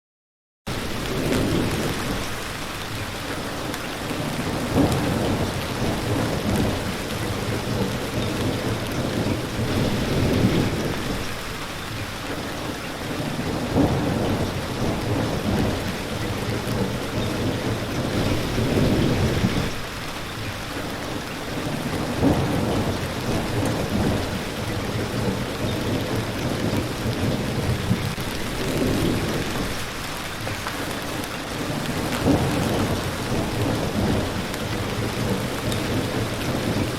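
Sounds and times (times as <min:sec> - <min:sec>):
rolling thunder: 0:00.7 - 0:02.4, 0:03.2 - 0:11.6, 0:12.3 - 0:20.0, 0:20.8 - 0:30.5, 0:31.2 - 0:36.9
heavy rain: 0:00.7 - 0:36.9.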